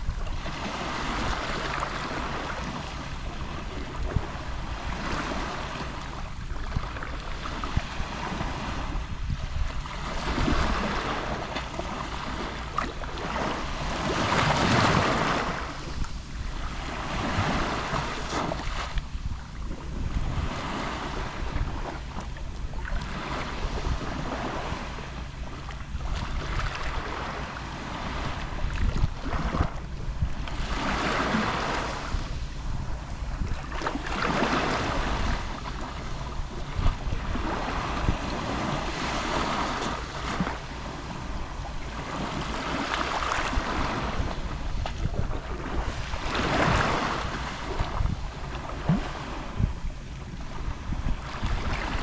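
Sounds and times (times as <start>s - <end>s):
small waves lapping on shore: 0.0s - 52.0s.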